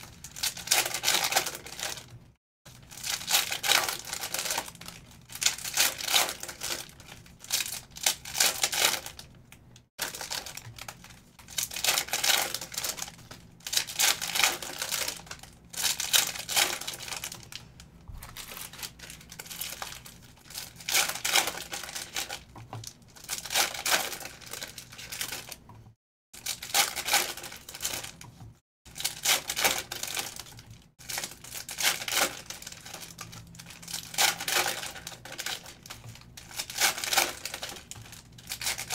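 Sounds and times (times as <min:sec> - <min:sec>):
card pack wrappers tearing: 0:00.0 - 0:09.3, 0:10.0 - 0:25.6, 0:26.4 - 0:28.2, 0:28.9 - 0:38.9.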